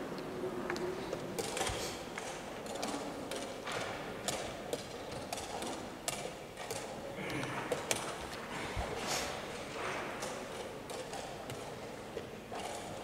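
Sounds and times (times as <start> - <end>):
low steady room noise: 0.0 - 13.0.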